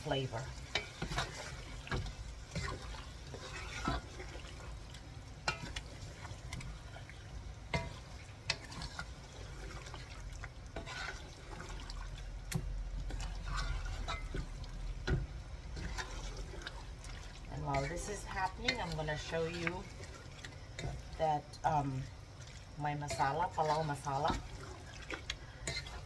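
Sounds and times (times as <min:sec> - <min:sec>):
food bubbling in a pot: 0:00.0 - 0:26.0.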